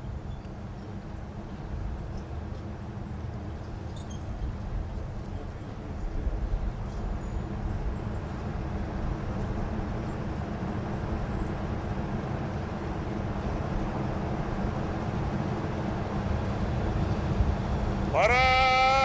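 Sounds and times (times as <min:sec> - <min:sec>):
low outdoor rumble and hiss: 0:00.0 - 0:19.0.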